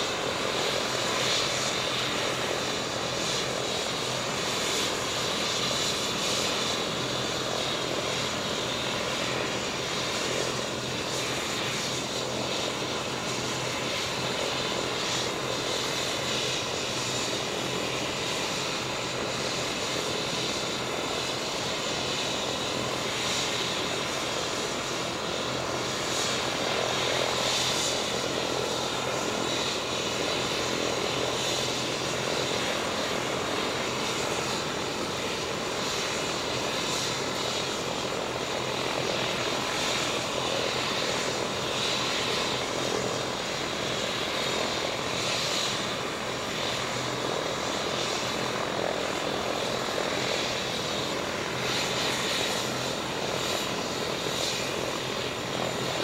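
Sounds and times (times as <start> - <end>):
helicopter turbine engine whining: 0.0 - 56.0.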